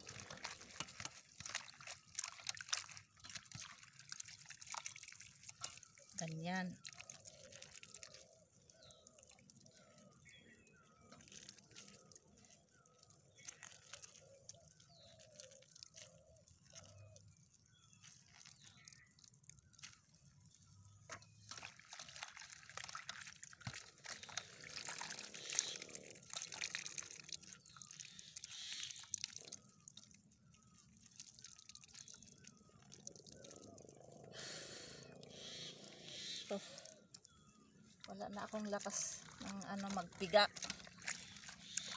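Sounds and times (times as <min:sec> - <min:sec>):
juice dripping into metal basin: 0:00.0 - 0:34.4, 0:35.0 - 0:41.9.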